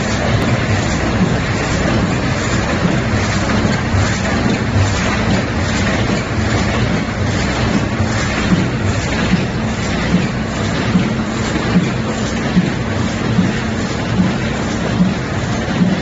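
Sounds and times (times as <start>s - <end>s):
die-cutting machine running: 0.0s - 16.0s.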